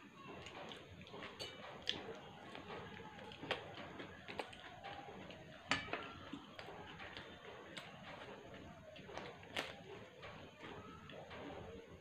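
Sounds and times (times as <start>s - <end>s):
pizza being chewed: 0.0s - 12.0s.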